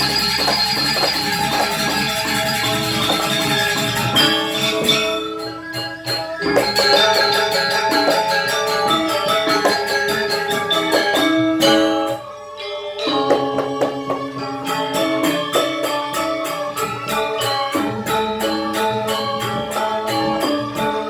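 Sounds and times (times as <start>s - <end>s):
metallophones ringing: 0.0s - 21.0s
small cymbals pulse: 0.0s - 21.0s.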